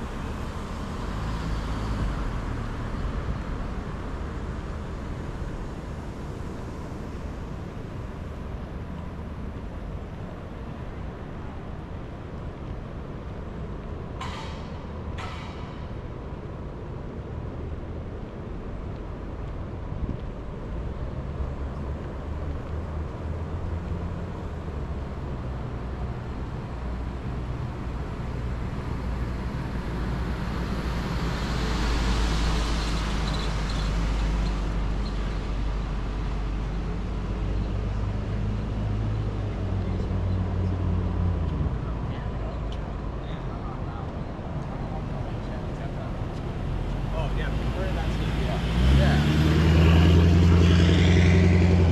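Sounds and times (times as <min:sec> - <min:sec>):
bus passing: 0:00.0 - 0:51.9
traffic rumble: 0:00.0 - 0:51.9.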